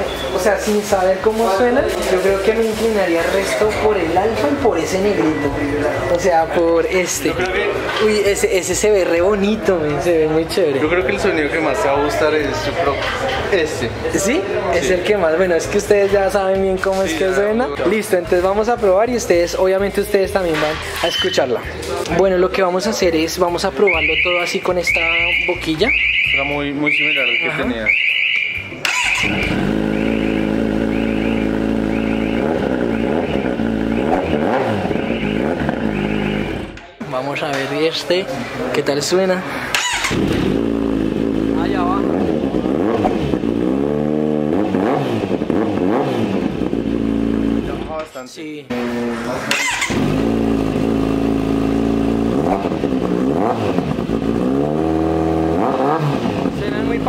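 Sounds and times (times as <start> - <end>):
motorcycle engine idling and revving: 0.0 - 21.0, 28.7 - 37.0, 39.7 - 48.0, 48.7 - 57.0.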